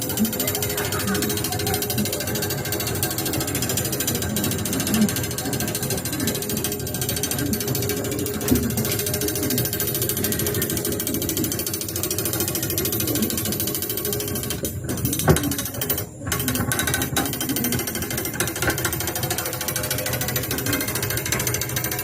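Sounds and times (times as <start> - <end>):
fast rattle of clicks: 0.0 - 22.0.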